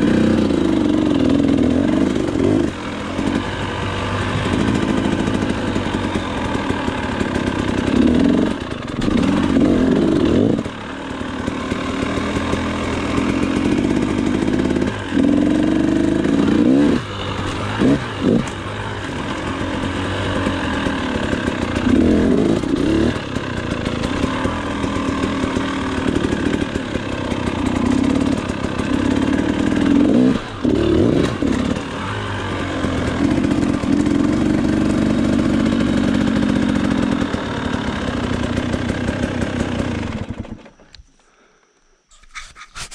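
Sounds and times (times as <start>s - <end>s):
dirt bike engine revving: 0.0s - 40.6s.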